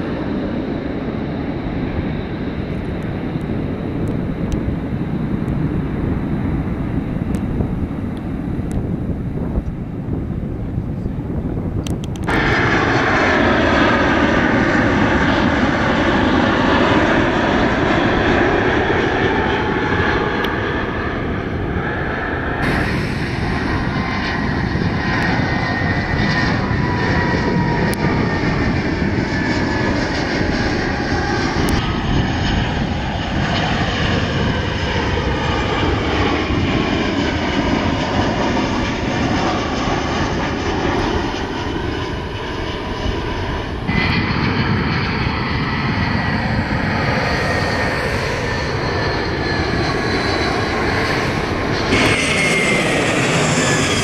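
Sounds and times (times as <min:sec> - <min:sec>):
jet airliners passing low overhead: 0:00.0 - 0:54.0.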